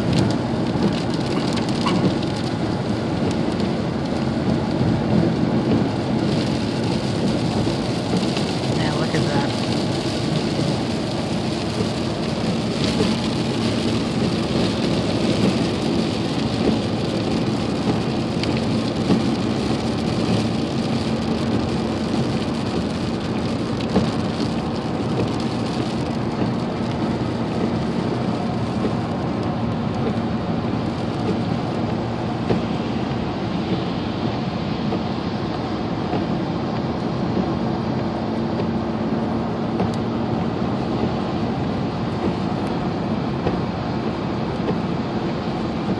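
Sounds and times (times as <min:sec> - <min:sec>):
rain hitting truck roof: 0:00.0 - 0:45.9
truck hum: 0:00.0 - 0:45.9
tyres hissing on wet road: 0:00.0 - 0:45.9.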